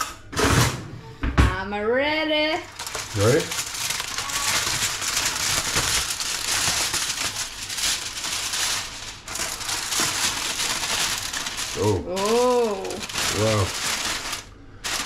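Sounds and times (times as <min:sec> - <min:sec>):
aluminium foil crinkling: 0:02.5 - 0:15.0.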